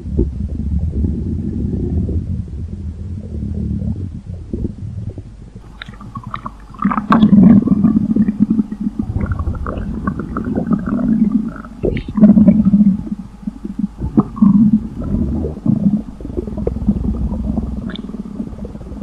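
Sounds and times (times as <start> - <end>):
squeaky stomach gurgles: 0.0 - 19.0
stomach rumbling: 0.0 - 19.0.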